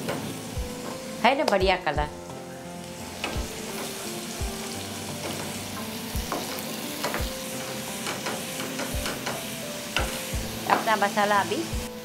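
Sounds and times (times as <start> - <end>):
paste sizzling in oil: 0.0 - 12.0.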